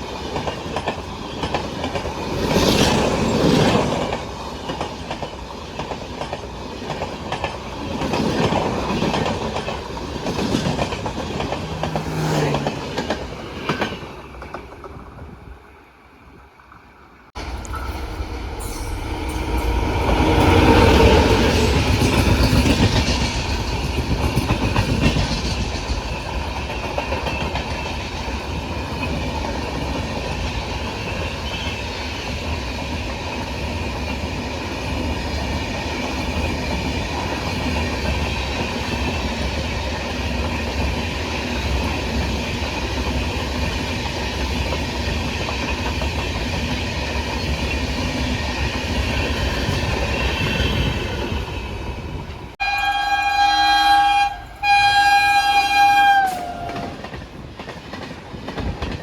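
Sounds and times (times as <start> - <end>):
train wheels clattering on track: 0.0 - 15.4, 17.4 - 52.6, 56.0 - 59.0.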